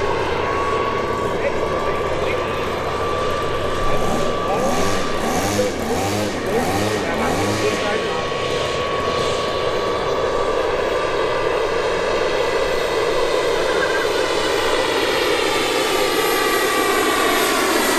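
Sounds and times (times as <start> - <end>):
model airplane motor and propeller: 0.0 - 17.9.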